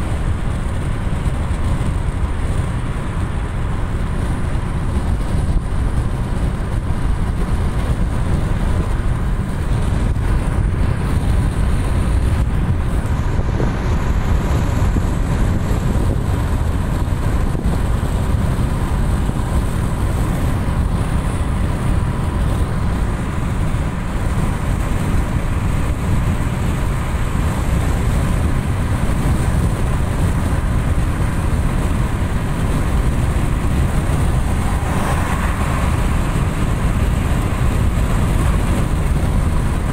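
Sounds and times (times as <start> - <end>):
car road noise from inside: 0.0 - 39.9.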